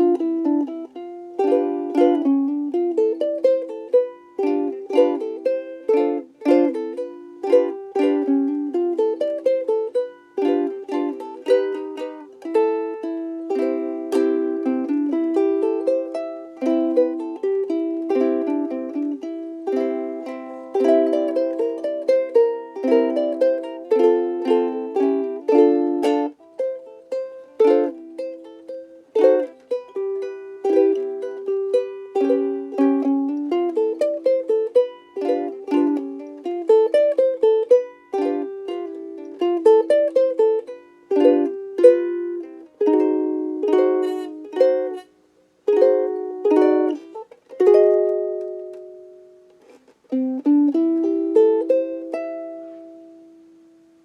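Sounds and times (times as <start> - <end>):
ukulele playing melody and chords: 0.0 - 54.0.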